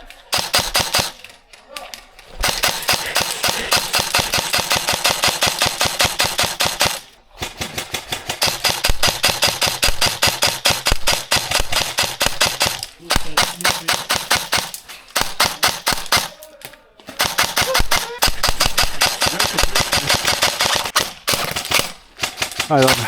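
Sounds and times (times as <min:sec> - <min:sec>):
airsoft guns firing full auto: 0:00.1 - 0:16.5, 0:17.2 - 0:23.0.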